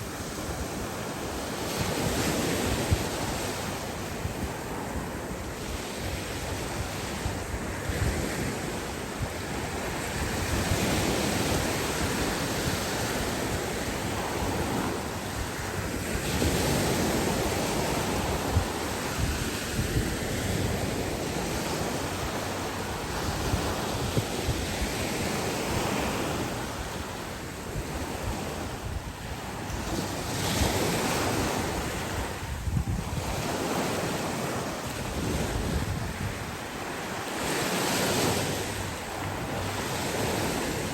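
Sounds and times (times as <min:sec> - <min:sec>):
sea waves breaking on beach: 0:00.0 - 0:40.9
wind buffeting microphone: 0:00.0 - 0:40.9.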